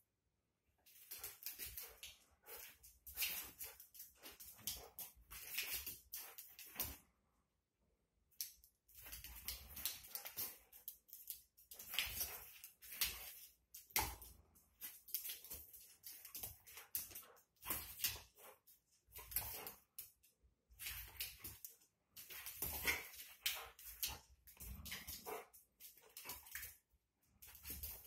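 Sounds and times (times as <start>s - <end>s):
dog claws skittering on hard floor: 0.9s - 7.0s, 8.9s - 20.2s, 20.8s - 26.8s.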